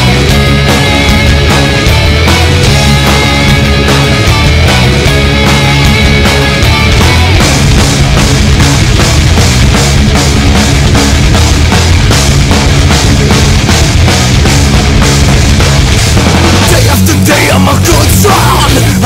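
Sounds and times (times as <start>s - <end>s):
hard rock music: 0.0s - 19.0s.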